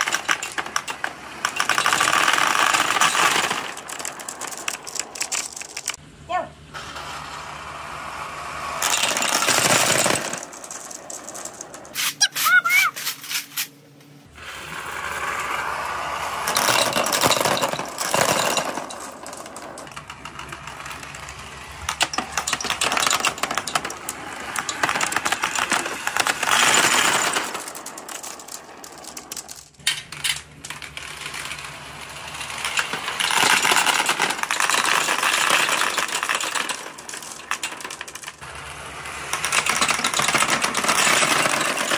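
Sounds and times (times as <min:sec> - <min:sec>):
marbles clattering: 0:00.0 - 0:06.0, 0:08.3 - 0:13.2, 0:14.4 - 0:41.9
marbles rolling in plastic tube: 0:00.0 - 0:06.0, 0:06.8 - 0:12.0, 0:14.3 - 0:41.9.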